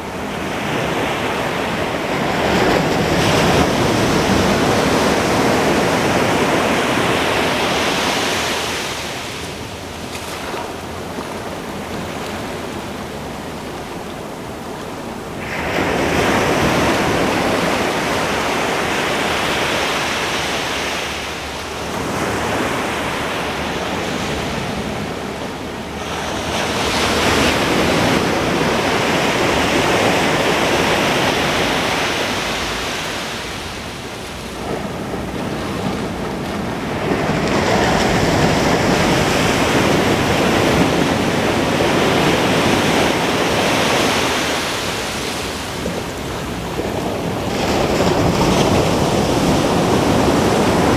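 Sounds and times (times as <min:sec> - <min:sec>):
ocean waves crashing on beach: 0:00.0 - 0:50.9.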